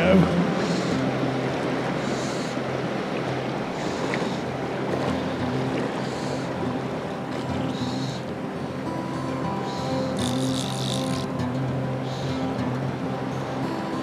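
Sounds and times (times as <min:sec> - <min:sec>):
creek running over rocks: 0:00.0 - 0:12.9.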